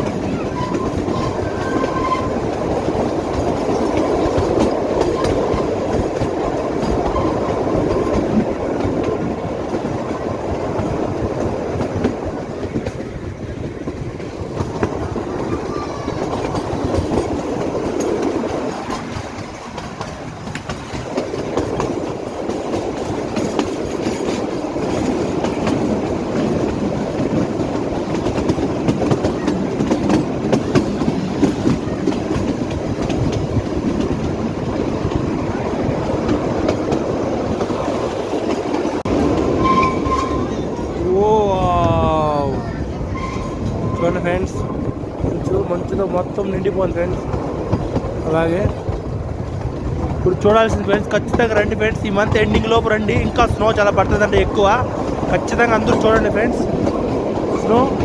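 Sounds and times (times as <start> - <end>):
train rumble: 0.0 - 58.0
train wheels clicking over rail joints: 0.0 - 58.0.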